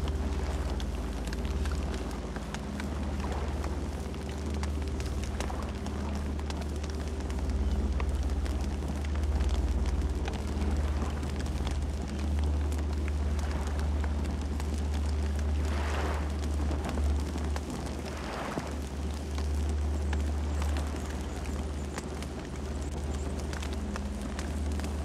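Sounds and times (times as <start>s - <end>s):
campfire rumble: 0.0s - 25.0s
fire crackles and pops: 0.0s - 25.0s.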